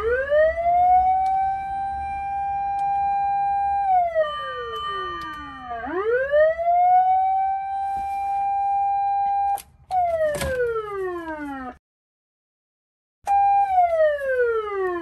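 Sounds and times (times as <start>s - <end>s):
fire truck siren wailing: 0.0s - 11.8s, 13.3s - 15.0s.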